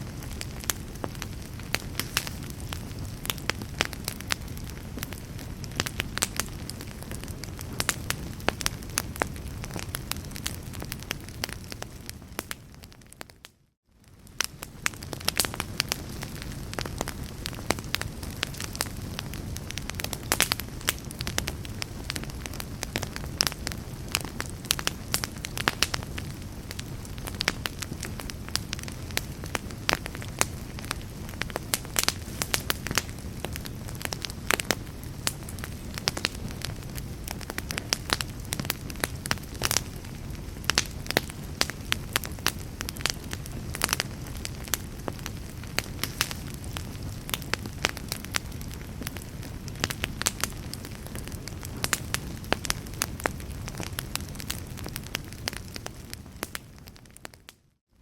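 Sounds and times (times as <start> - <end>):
logs crackling and popping: 0.0 - 57.6
low rumble of flame: 0.0 - 57.6.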